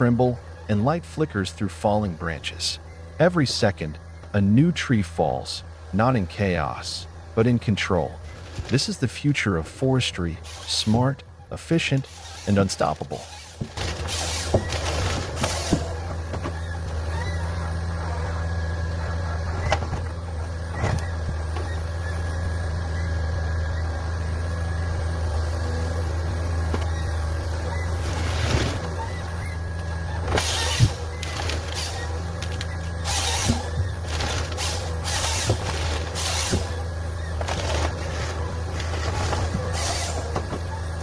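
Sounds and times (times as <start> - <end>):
diesel engine humming: 0.0 - 41.0.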